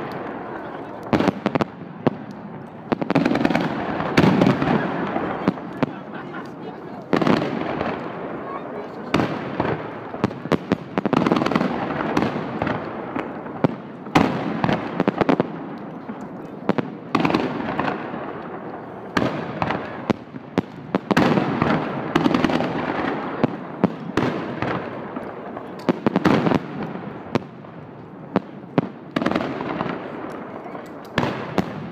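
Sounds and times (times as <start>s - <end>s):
fireworks bangs: 0.0s - 31.9s
rumble of echoing explosions: 0.0s - 31.9s.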